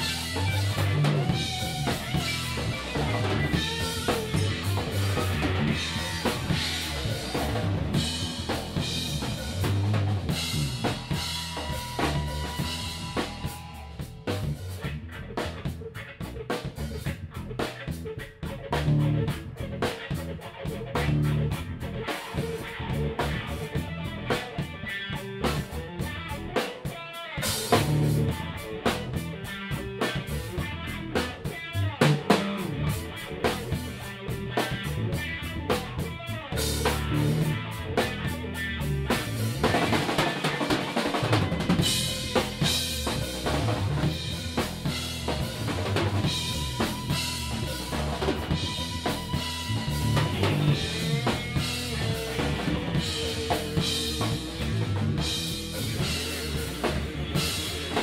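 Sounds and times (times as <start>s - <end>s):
instrumental rock band playing: 0.0s - 58.0s.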